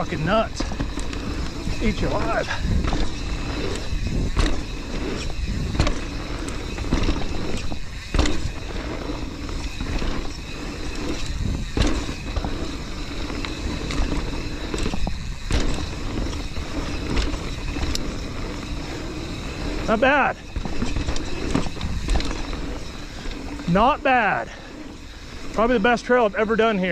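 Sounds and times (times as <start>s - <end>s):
mountain bike rattling downhill: 0.0s - 26.9s.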